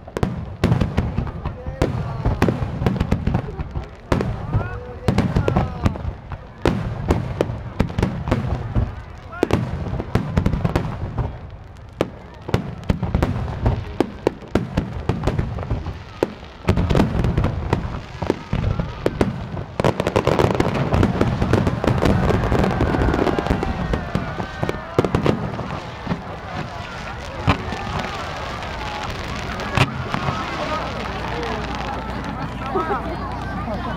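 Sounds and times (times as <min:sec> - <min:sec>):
fireworks bangs and booms: 0:00.0 - 0:33.8
fireworks crackling: 0:00.0 - 0:33.9.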